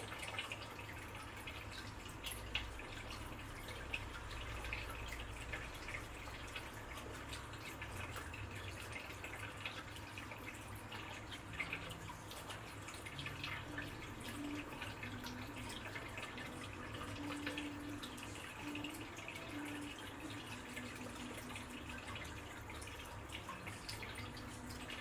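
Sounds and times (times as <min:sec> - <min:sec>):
water dripping and trickling: 0:00.0 - 0:25.0.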